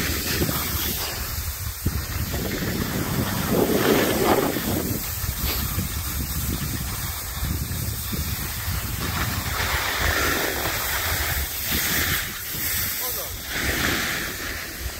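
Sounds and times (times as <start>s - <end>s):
steady hiss: 0.0s - 14.9s
wind rumbling on the microphone: 0.0s - 14.9s.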